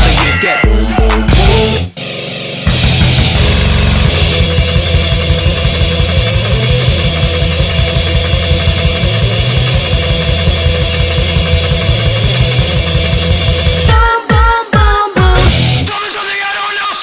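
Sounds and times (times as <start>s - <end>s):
distorted heavy metal music: 0.0s - 14.4s, 15.2s - 17.0s.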